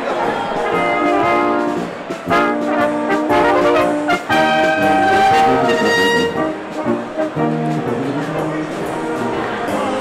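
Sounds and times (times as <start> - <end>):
brass band playing: 0.0 - 10.0.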